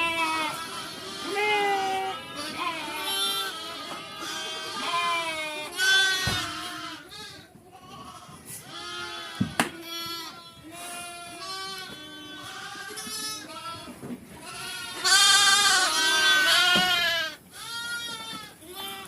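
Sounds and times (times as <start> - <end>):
sheep and goats bleating: 0.0 - 19.0.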